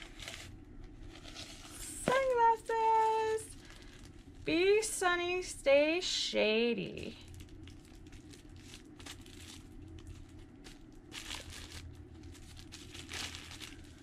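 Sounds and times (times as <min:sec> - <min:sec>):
plastic wrapping crinkling: 0:00.0 - 0:04.9, 0:06.8 - 0:14.0.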